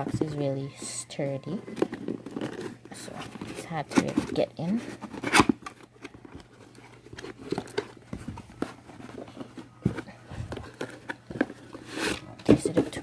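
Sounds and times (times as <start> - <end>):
cardboard box scraping and tapping: 0.0 - 13.0
packaging crinkling: 0.0 - 13.0.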